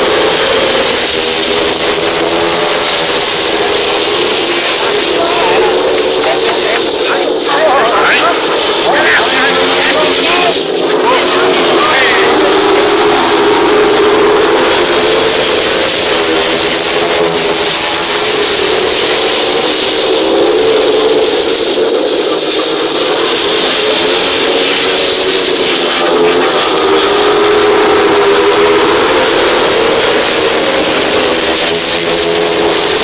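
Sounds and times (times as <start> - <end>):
motorcycle engines racing: 0.0 - 33.0.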